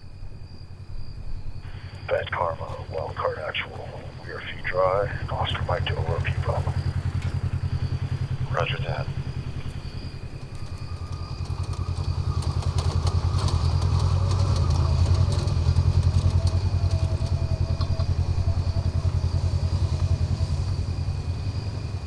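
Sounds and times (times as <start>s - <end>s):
engine running with high whine: 0.0s - 22.0s.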